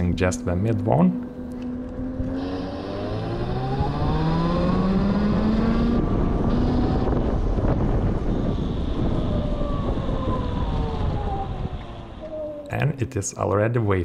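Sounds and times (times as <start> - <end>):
wind rushing over microphone: 0.0 - 14.0
electric motorcycle motor whining: 1.2 - 12.6.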